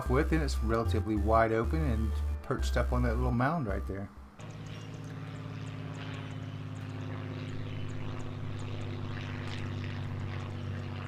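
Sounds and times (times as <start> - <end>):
drone propellers humming: 0.0 - 11.0.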